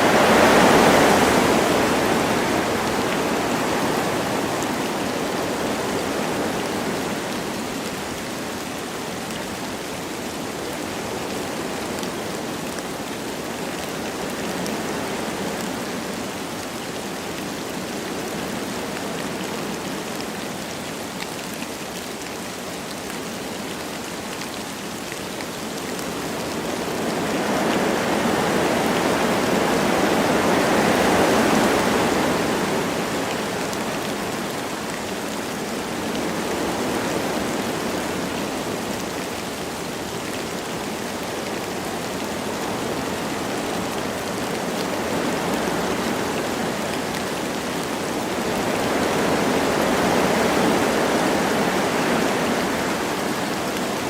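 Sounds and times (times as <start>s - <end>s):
light rain: 0.0s - 54.0s
wind through trees: 0.0s - 54.0s.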